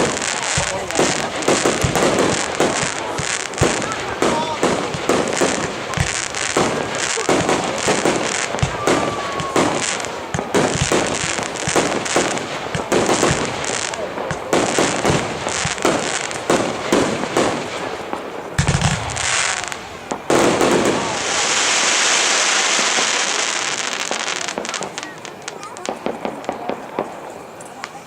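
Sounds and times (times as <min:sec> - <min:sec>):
deep firework boom: 0:00.0 - 0:23.2
fireworks bangs and crackles: 0:00.0 - 0:28.0.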